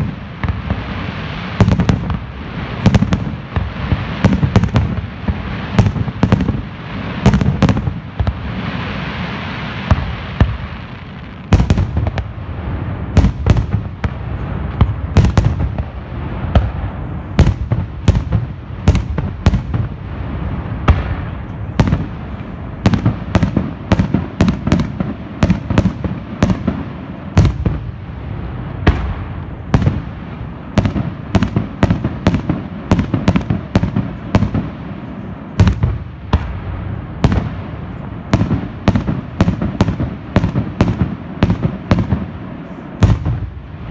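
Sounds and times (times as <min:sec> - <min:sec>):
firework hiss: 0:00.0 - 0:43.9.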